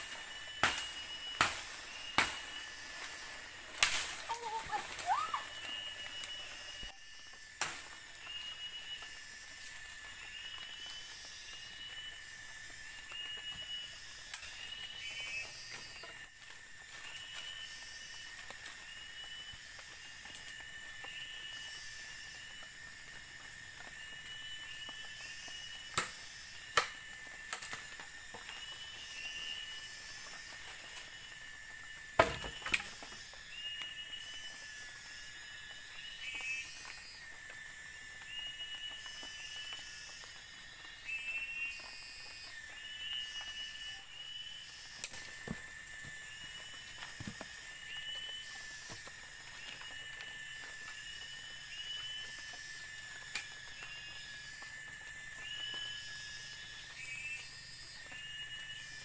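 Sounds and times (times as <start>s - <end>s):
insect chorus drone: 0.0s - 59.0s
pulsing insect trills and chirps: 0.0s - 59.0s.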